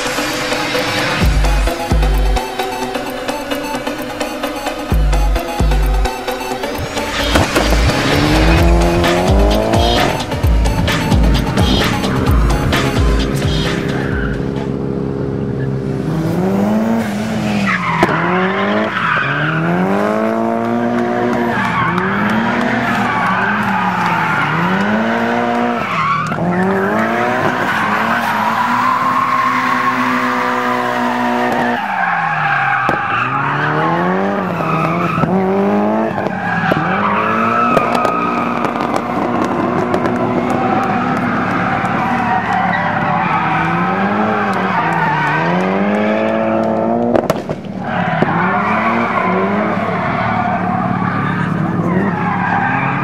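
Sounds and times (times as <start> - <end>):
car engine revving: 0.0 - 53.0
tyres squealing and skidding: 0.0 - 53.0.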